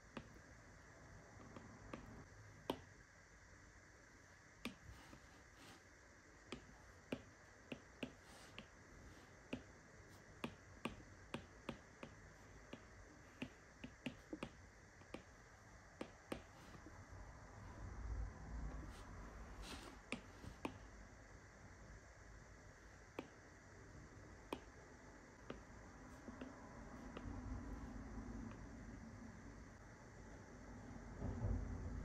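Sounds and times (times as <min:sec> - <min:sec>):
quiet hiss: 0:00.0 - 0:32.0.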